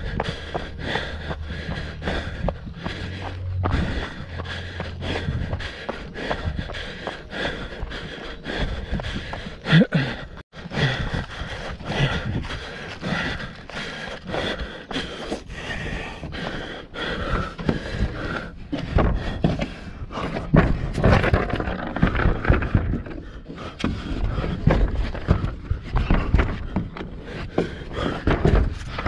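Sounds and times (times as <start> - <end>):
hard panting breaths: 0.0 - 29.0.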